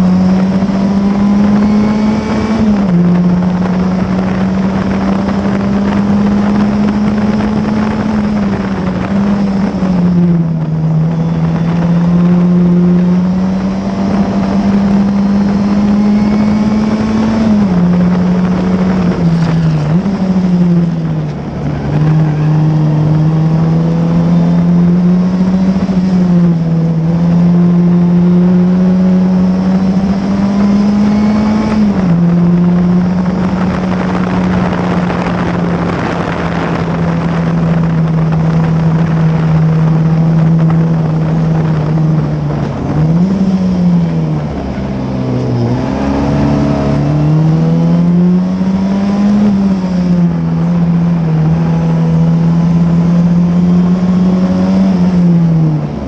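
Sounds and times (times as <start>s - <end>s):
racing car engine at high revs: 0.0s - 56.0s
wind rushing over car: 0.0s - 56.0s.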